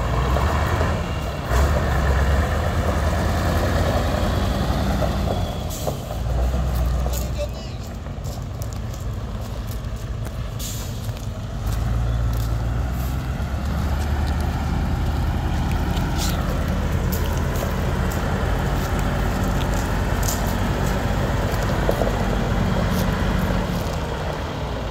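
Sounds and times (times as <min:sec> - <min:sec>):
truck diesel engine running: 0:00.0 - 0:24.9.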